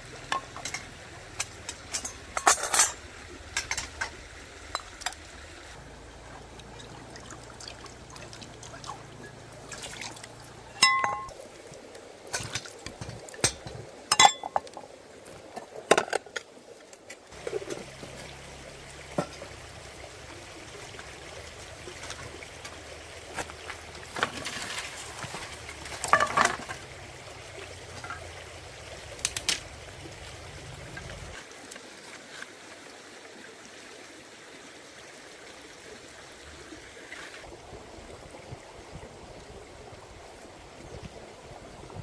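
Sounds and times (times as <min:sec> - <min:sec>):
stream water running: 0:00.0 - 0:42.0.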